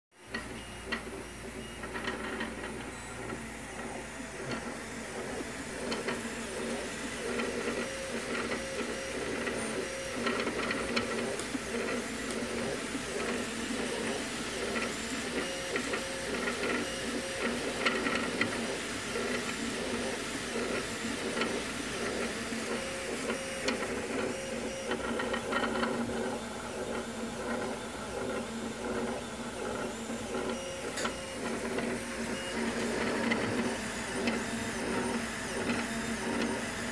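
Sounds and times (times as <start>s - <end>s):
cooling fans whirring: 0.1s - 36.9s
stepper motors whining: 0.3s - 36.9s.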